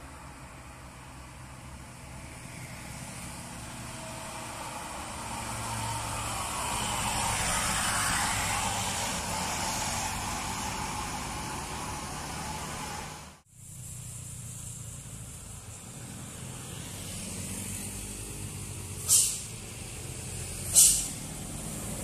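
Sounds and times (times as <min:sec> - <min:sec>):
minibus passing: 0:00.0 - 0:22.0
vehicle engines running: 0:00.0 - 0:22.0.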